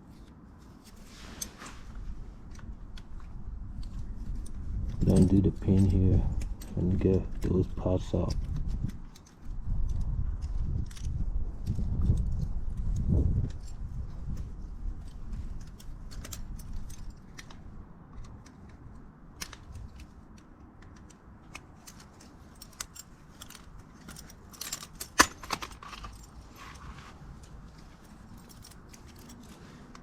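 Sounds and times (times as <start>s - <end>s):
metal tools clicking on brake caliper: 2.4s - 26.6s.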